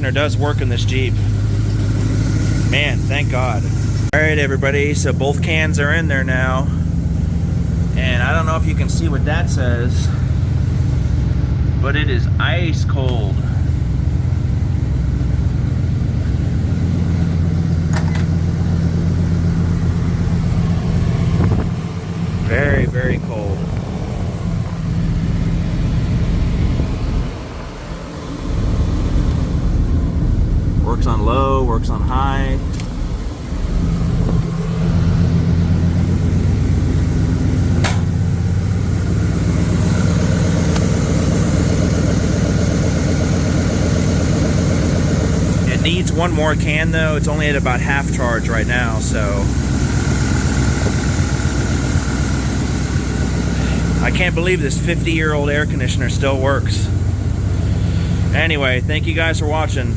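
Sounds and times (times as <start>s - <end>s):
air conditioning running: 0.0s - 59.9s
car engine idling: 0.0s - 59.9s.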